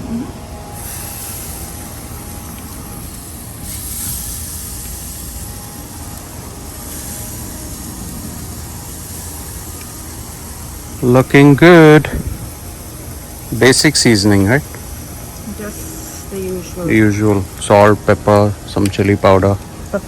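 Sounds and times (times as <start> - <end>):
low steady rumble: 0.0 - 20.0
meat sizzling on a grill: 0.7 - 20.0.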